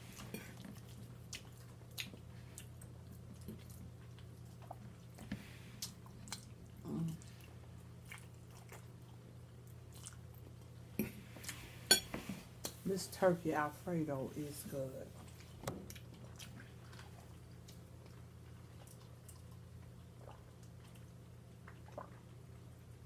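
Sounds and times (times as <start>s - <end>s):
chewing soft food: 0.0s - 11.6s, 15.2s - 23.0s.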